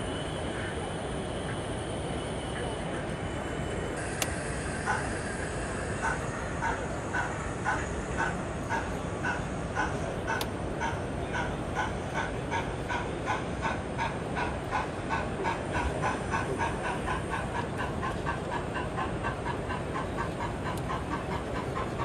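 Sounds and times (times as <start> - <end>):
model steam locomotive chuffing: 0.0 - 22.0
steady background noise: 0.0 - 22.0.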